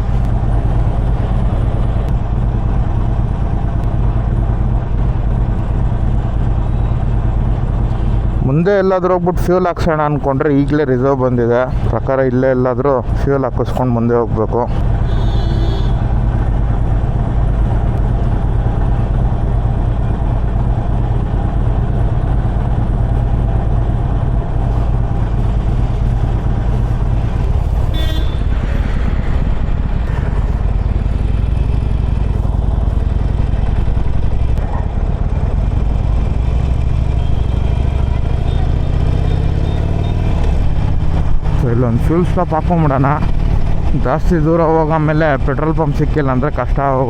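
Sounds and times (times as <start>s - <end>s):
motorcycle engine running: 0.0s - 11.1s, 11.8s - 47.0s.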